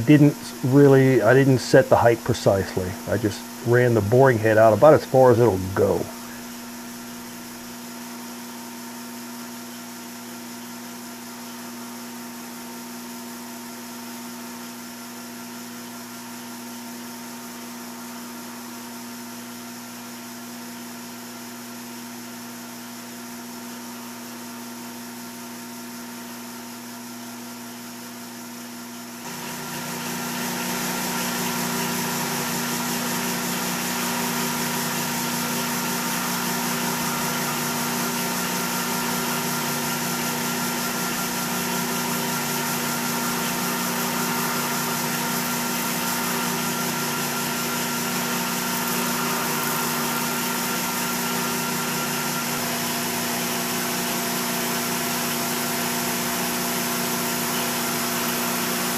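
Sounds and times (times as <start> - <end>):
metal lathe humming with whine: 0.0 - 58.9.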